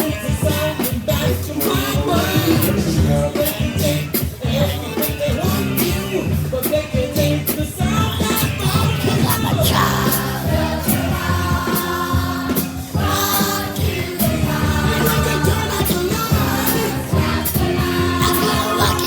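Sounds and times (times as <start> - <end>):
drums and cymbals: 0.0 - 19.0
rock song with group vocals: 0.0 - 19.0.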